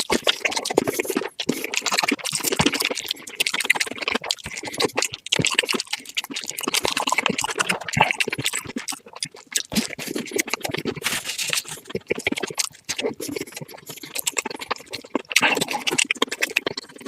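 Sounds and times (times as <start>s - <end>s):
crunching and chewing: 0.0s - 17.0s.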